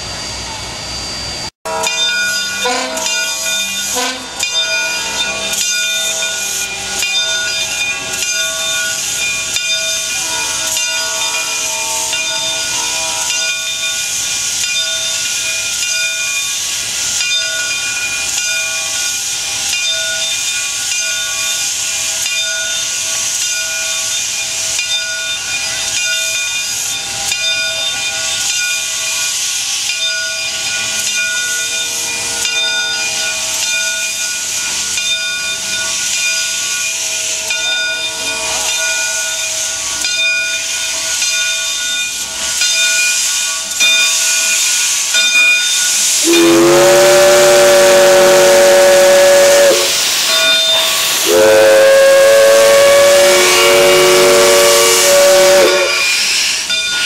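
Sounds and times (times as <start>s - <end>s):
steady whistling tones: 0.0s - 57.0s
steam hissing from locomotive: 0.0s - 57.0s.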